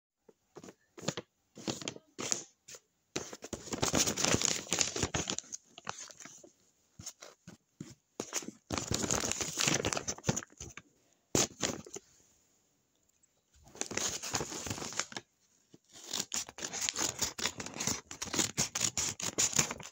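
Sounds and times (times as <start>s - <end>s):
paper rustling and crinkling: 0.6s - 10.8s, 11.4s - 12.0s, 13.6s - 19.9s.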